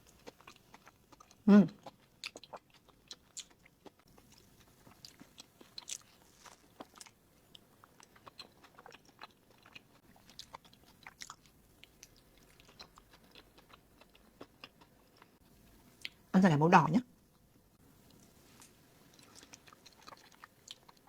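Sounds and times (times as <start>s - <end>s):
chewing with wet mouth clicks: 0.1s - 15.4s, 19.1s - 21.0s.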